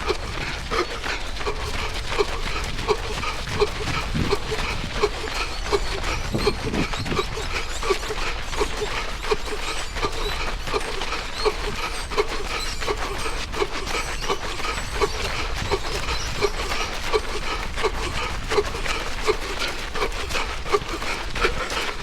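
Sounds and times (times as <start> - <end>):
man wheezing while running: 0.0 - 22.0.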